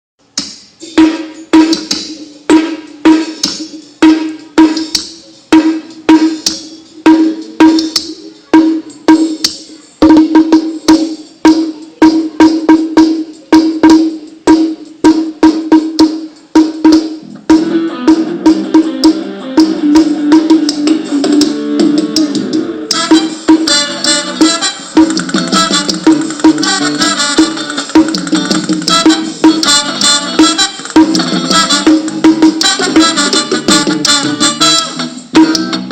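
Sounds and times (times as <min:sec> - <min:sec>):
music over sound system: 0:00.2 - 0:35.9.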